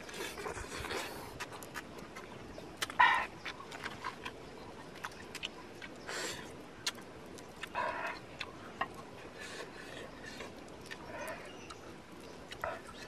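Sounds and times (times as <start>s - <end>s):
lip smacks: 0.0s - 13.0s
open-mouthed chewing: 0.0s - 13.0s.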